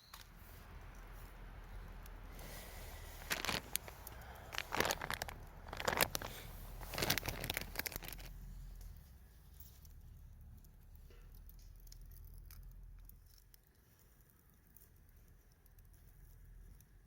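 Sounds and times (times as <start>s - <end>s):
rustling while handling: 0.0s - 17.0s.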